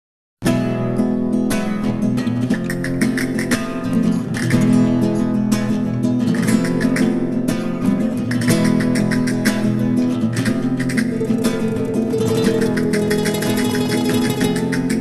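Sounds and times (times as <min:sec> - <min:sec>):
acoustic guitar strumming: 0:00.5 - 0:15.0.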